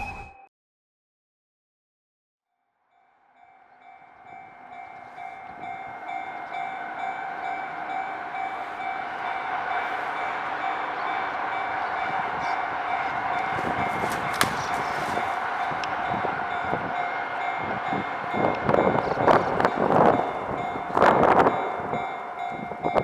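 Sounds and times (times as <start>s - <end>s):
train rumble: 3.8s - 23.0s.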